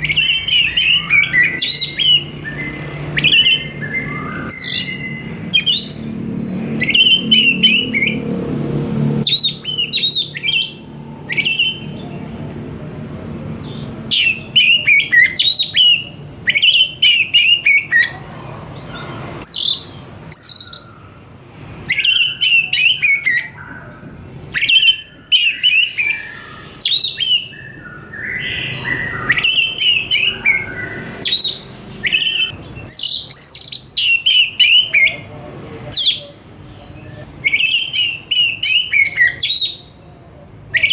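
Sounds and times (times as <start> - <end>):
bird singing chirps and whistles: 0.0 - 8.2, 9.2 - 12.2, 13.6 - 18.2, 18.8 - 21.2, 21.8 - 35.2, 37.0 - 39.9.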